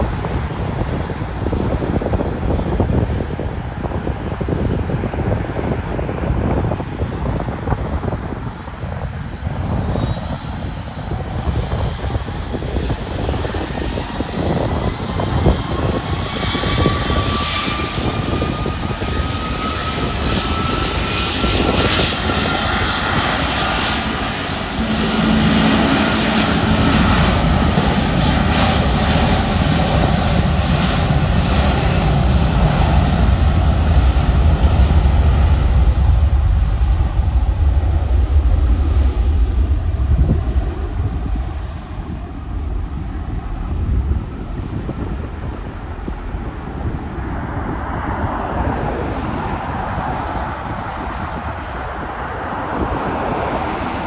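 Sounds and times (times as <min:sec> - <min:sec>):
jet engine deep rumble: 0:00.0 - 0:54.0
jet engine whine: 0:00.0 - 0:54.0.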